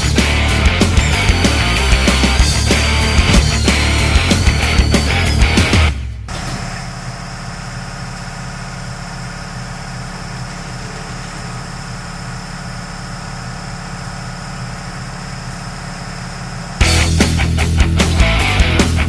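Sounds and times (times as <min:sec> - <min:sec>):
engine drone with whine: 0:00.0 - 0:18.4.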